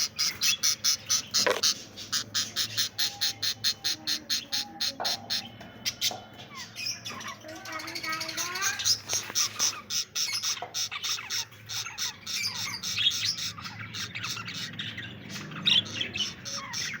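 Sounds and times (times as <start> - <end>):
small birds chirping and squawking: 0.0 - 17.0.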